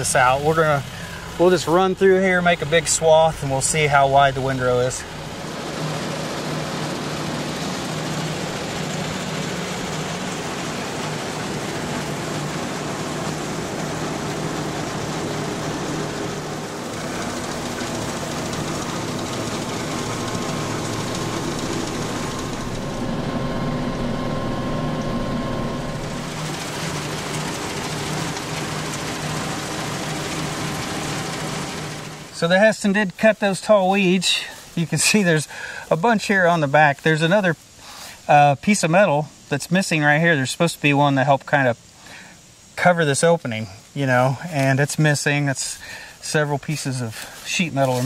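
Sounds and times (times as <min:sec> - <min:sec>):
tractor engine running under load: 0:00.0 - 0:38.1, 0:44.2 - 0:48.0.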